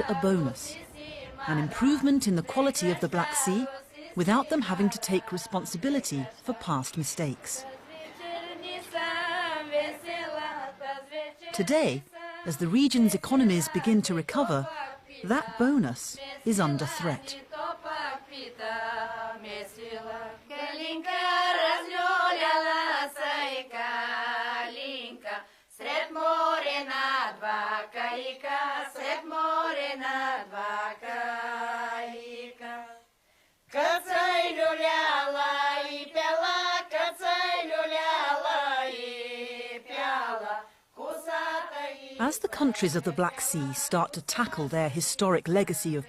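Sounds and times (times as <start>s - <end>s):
unaccompanied chant-like singing: 0.0s - 46.0s.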